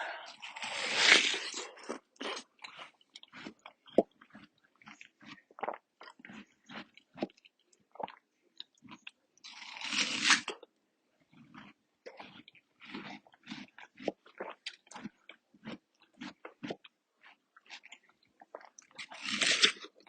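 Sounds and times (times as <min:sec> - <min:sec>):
crunching bite into watermelon: 0:00.1 - 0:07.4, 0:08.9 - 0:10.7, 0:11.4 - 0:20.0.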